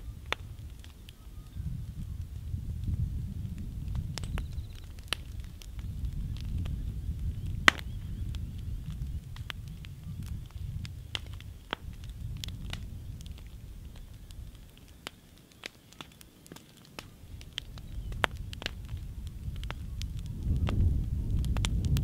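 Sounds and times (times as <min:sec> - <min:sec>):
embers crackling and popping: 0:00.0 - 0:22.0.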